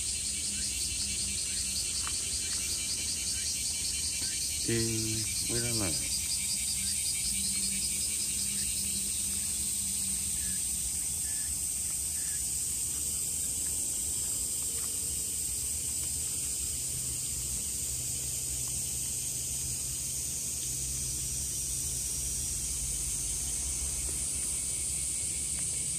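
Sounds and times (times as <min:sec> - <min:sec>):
insect chorus hissing: 0:00.0 - 0:25.9.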